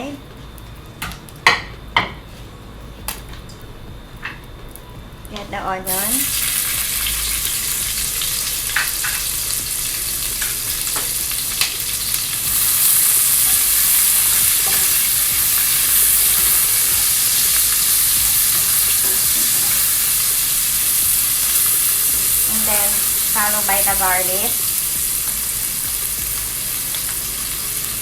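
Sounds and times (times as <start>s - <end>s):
onion sizzling in a pan: 5.2s - 28.0s.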